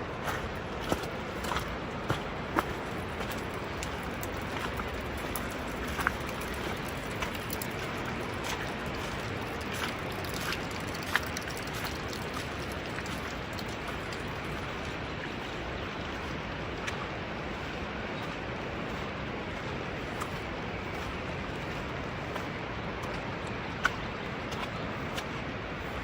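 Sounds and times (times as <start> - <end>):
steady rain: 0.0 - 26.0
raindrops ticking close by: 0.1 - 26.0.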